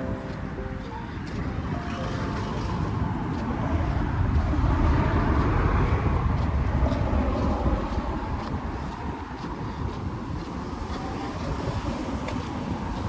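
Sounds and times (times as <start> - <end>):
vehicle engine and tyre rumble: 0.0 - 13.0.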